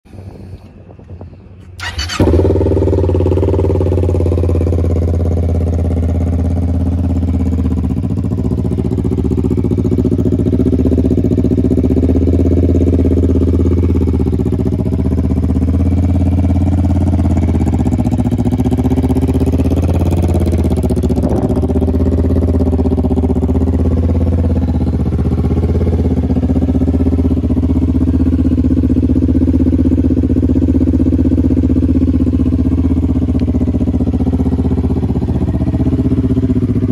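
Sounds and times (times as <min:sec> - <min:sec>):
motorcycle engine idling: 0:00.1 - 0:36.9.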